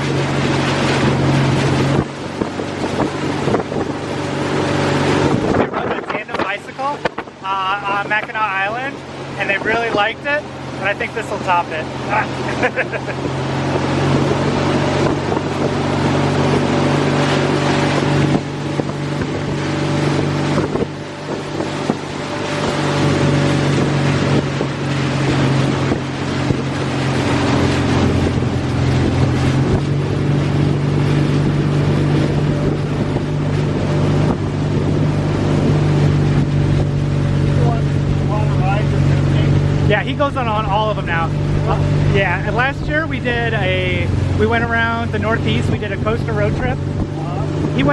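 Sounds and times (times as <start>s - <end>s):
road or water noise: 0.0s - 47.9s
vehicle engine droning: 0.0s - 47.9s
wind: 0.0s - 47.9s.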